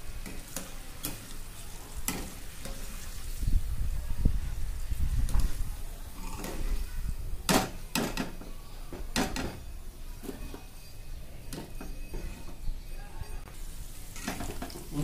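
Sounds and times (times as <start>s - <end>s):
faint frying: 0.0s - 15.0s.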